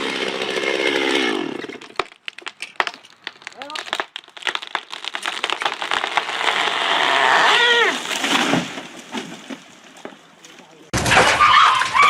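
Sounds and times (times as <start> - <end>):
tree cracking: 0.0 - 12.0
crackling branches rushing: 1.4 - 12.0.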